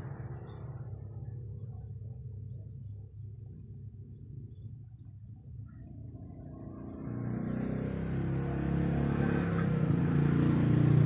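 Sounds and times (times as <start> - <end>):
vehicle engine approaching: 0.0 - 11.0.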